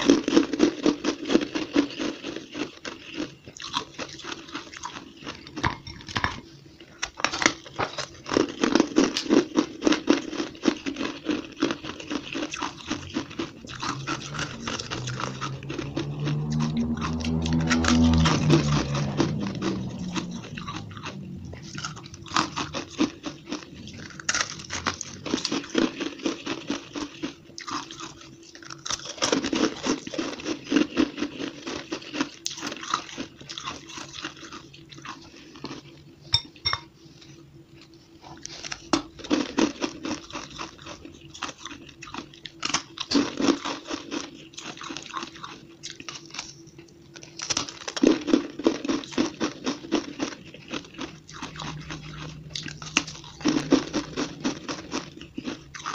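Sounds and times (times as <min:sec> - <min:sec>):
crunching frozen shaved ice: 0:00.0 - 0:05.7, 0:07.0 - 0:35.9, 0:38.4 - 0:55.9.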